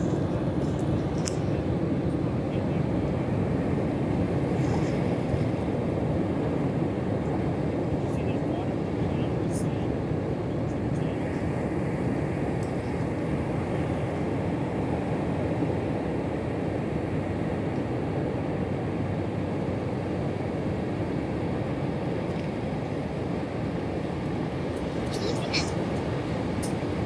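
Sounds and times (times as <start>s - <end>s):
low rushing beach ambience: 0.0s - 27.0s.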